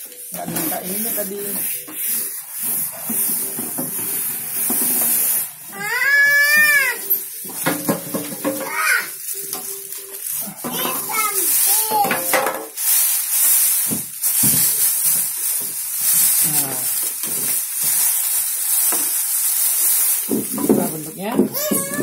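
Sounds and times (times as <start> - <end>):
plastic bag rustling: 0.0 - 22.0.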